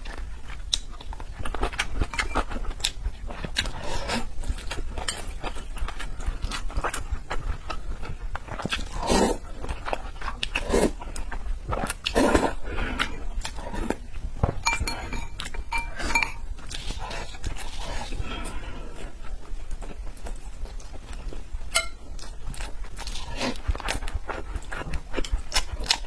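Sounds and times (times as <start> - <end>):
chewing and lip-smacking: 0.0 - 18.2, 19.0 - 26.0.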